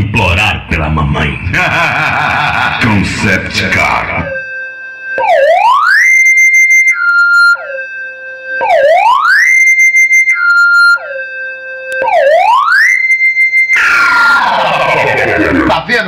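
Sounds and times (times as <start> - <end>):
electronic siren wailing: 1.6 - 16.0.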